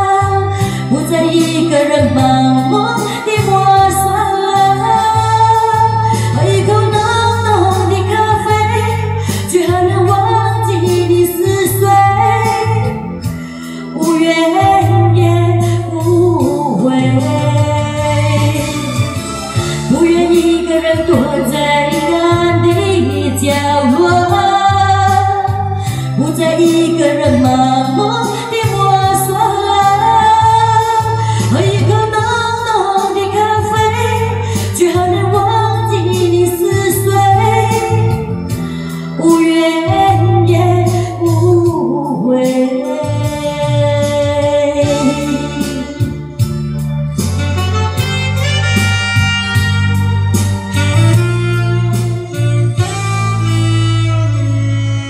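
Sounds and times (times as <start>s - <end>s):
woman singing pop ballad: 0.0s - 54.8s
backing music with bass line: 0.0s - 55.0s.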